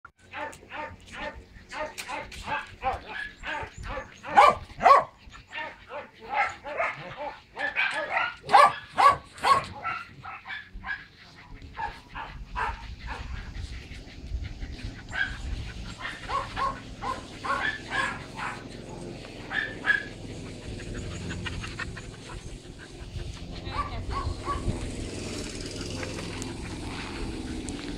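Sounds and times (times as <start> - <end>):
dogs barking: 0.2 - 27.9.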